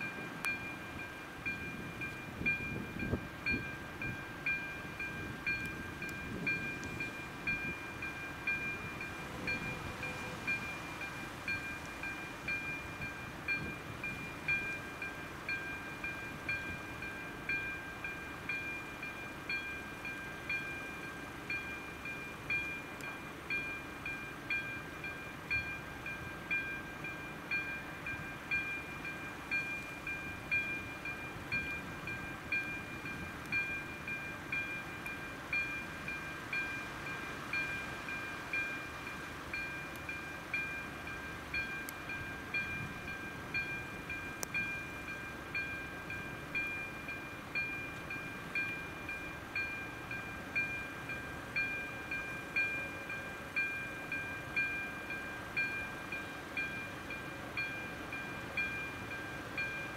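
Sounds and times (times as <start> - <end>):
level crossing warning bell ringing: 0.0 - 59.9.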